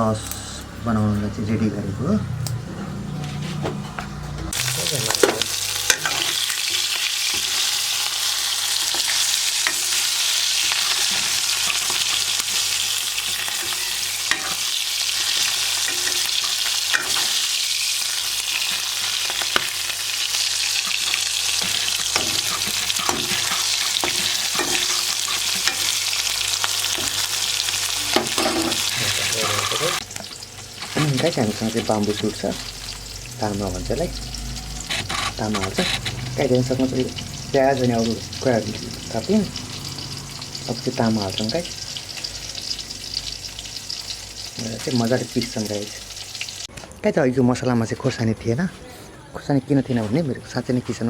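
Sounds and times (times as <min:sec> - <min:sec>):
food sizzling in oil: 0:04.5 - 0:46.7.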